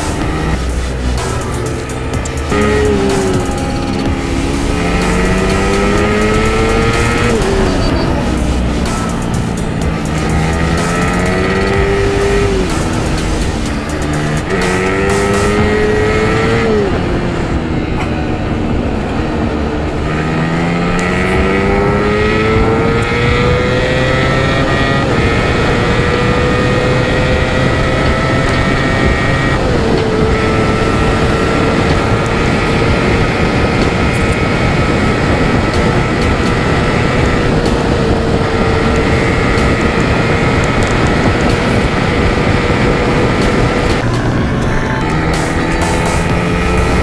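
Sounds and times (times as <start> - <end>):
motorcycle engine pulling hard: 0.0 - 47.0
wind and road noise: 0.0 - 47.0.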